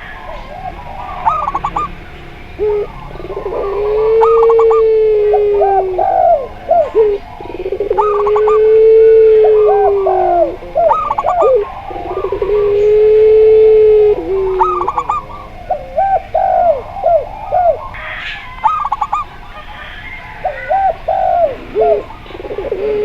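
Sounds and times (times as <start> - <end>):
doves cooing: 0.0 - 23.0
long drawn-out coo: 0.0 - 23.0.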